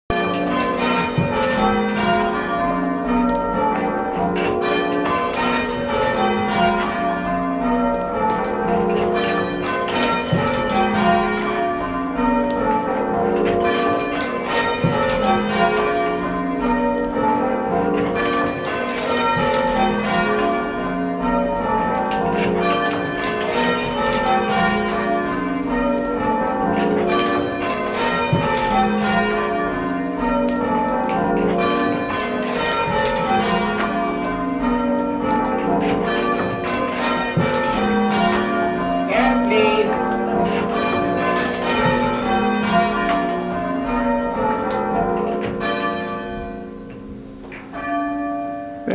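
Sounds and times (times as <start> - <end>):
church bells change ringing: 0.1 - 48.9.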